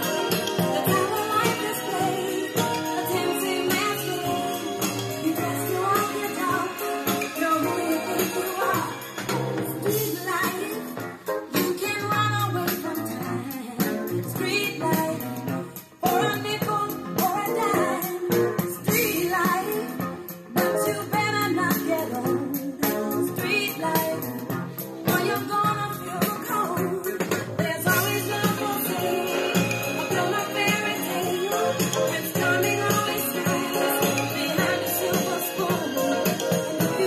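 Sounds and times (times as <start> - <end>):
song through small speaker: 0.0 - 37.0.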